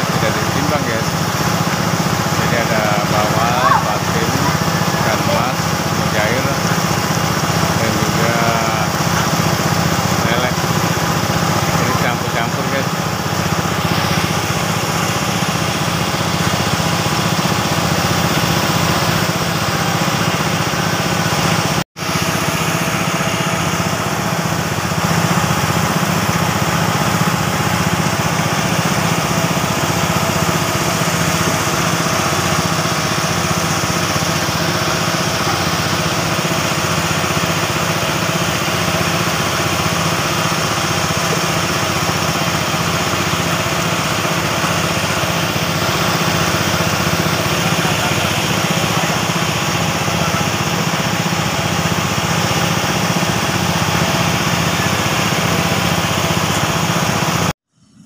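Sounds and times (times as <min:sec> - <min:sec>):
small engine droning: 0:00.0 - 0:58.0.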